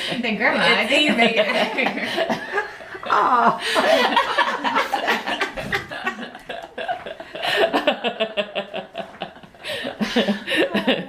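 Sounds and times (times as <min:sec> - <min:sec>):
people chuckling: 0:01.0 - 0:11.0.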